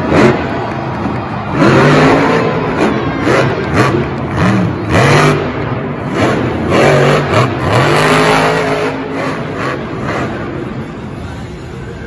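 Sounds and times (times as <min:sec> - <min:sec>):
monster truck engine revving: 0:00.0 - 0:11.8.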